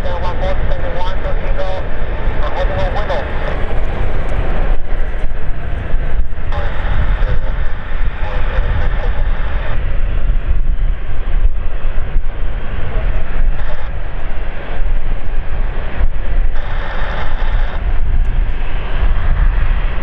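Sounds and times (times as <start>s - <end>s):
airliner engines roaring: 0.0s - 20.0s.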